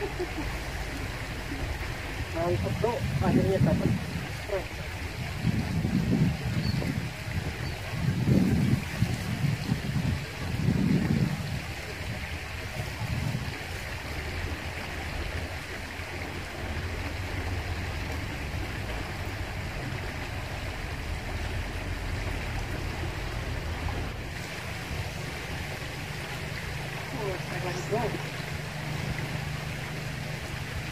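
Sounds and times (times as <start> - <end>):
flowing river water: 0.0 - 30.9
wind buffeting microphone: 0.0 - 30.9.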